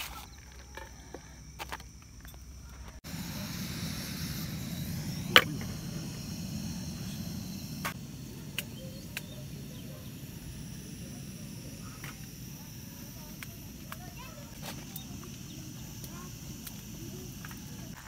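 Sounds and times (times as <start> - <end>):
camping stove burning: 0.0 - 18.0.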